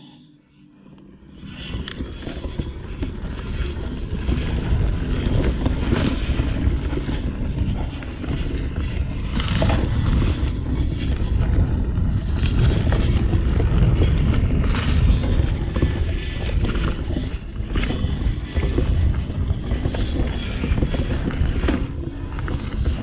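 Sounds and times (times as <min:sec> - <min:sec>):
bike tyre rumble on dirt: 0:01.2 - 0:23.0
wind buffeting microphone: 0:01.5 - 0:23.0.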